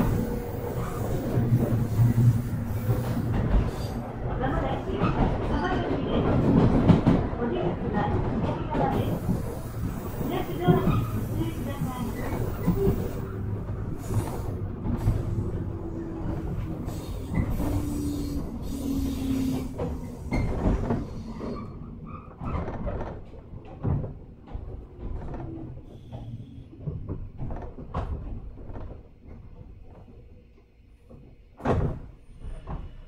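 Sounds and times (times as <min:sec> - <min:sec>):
train clunks and knocks: 0:00.0 - 0:33.0
train running noise: 0:00.0 - 0:33.0.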